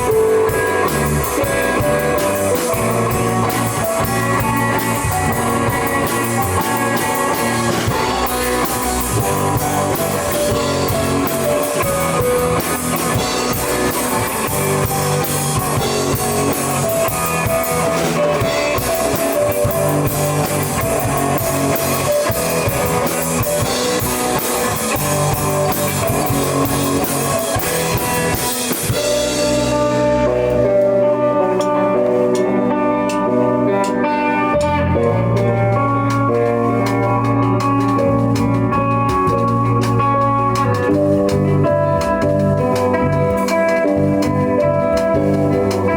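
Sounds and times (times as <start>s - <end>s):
drum kit: 0.0s - 45.9s
electric guitar: 0.0s - 45.9s.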